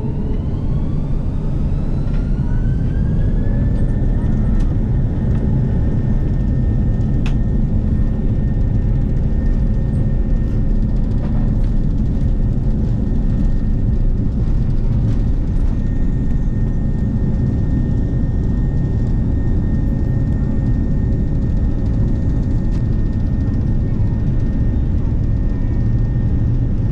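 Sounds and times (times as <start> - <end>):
airplane cabin engine rumble: 0.0 - 26.9.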